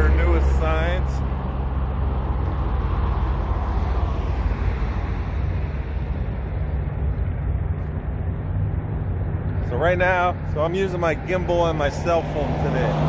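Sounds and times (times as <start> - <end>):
road traffic rumble: 0.0 - 13.0
vehicle passing: 0.0 - 13.0.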